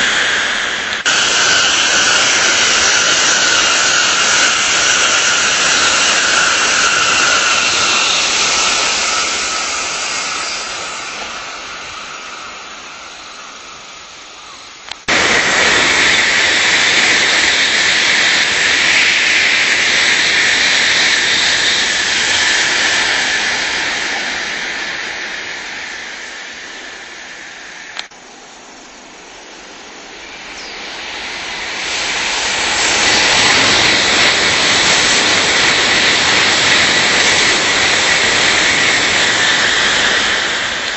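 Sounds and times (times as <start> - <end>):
train passing with rushing hiss: 0.0 - 40.9.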